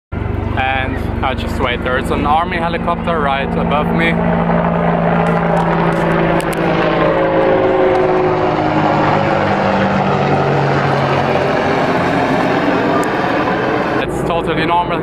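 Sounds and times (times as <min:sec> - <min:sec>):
helicopter rotor drone: 0:00.2 - 0:15.0.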